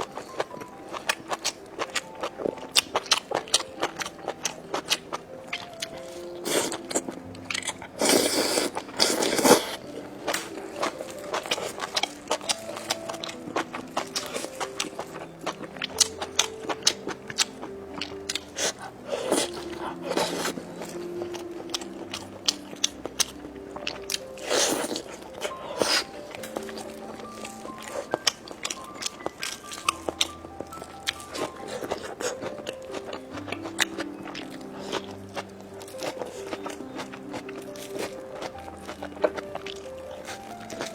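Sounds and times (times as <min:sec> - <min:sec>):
crunching and chewing food: 0:00.0 - 0:40.9
soft background music: 0:00.0 - 0:40.9.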